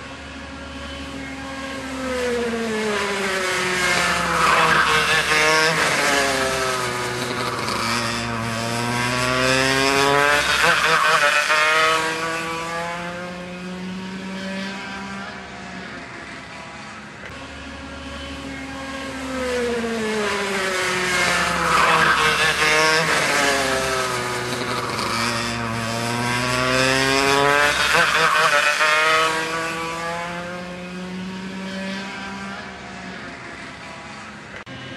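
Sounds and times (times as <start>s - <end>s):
kart engine passing at speed: 0.0s - 34.9s.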